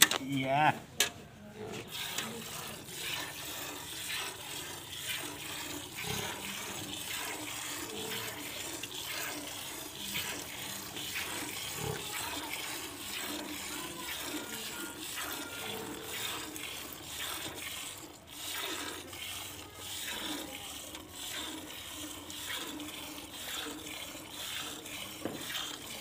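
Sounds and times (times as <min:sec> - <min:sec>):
milk squirting into steel bucket: 0:01.7 - 0:26.0.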